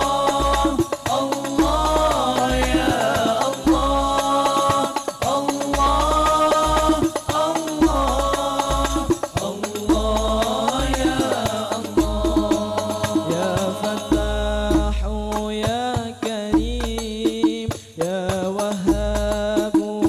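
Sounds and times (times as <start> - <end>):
frame drums beating: 0.0 - 20.0
man singing devotional melody: 0.0 - 20.0.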